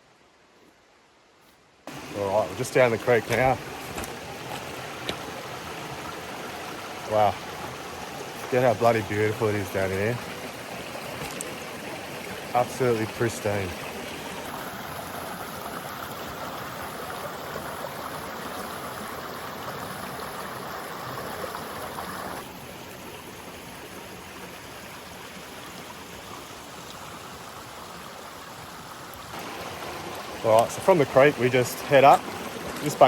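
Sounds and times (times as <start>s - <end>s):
creek water over rocks: 0.0s - 33.0s.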